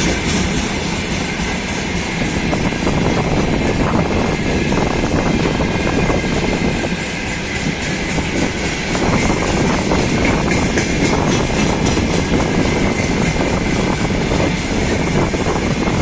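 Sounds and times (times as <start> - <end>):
steel train wheels on rails: 0.0 - 16.0.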